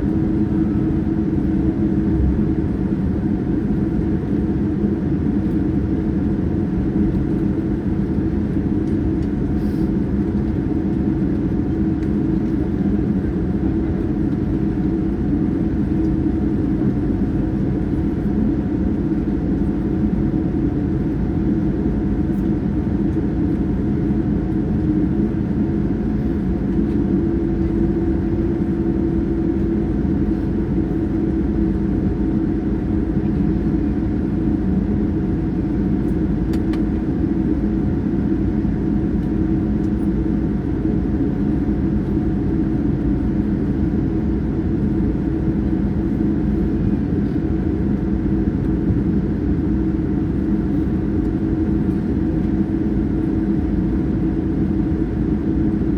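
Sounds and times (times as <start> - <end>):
jet engines roaring in cabin: 0.0 - 55.9
low even hum: 0.0 - 55.9.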